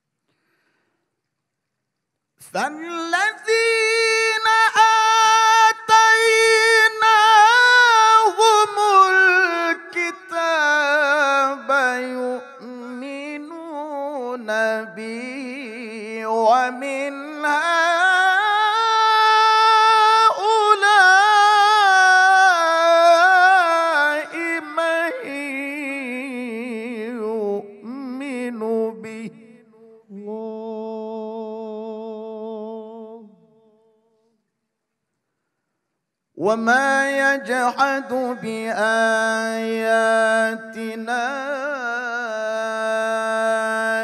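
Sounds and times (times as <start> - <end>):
man reciting melodically: 2.4 - 33.7, 36.4 - 44.0.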